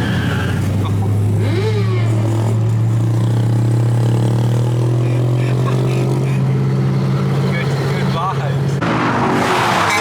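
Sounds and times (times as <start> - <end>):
car engine droning: 0.0 - 10.0.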